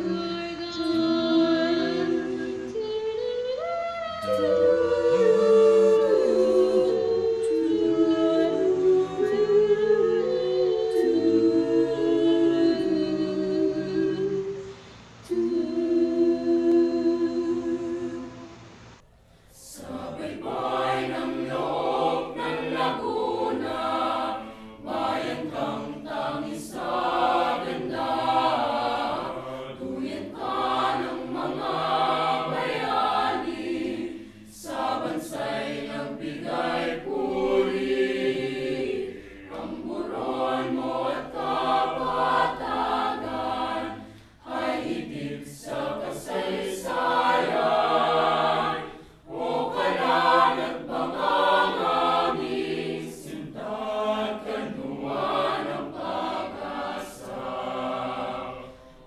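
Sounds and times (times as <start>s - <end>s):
mixed choir singing: 0.0s - 18.7s, 19.5s - 59.0s.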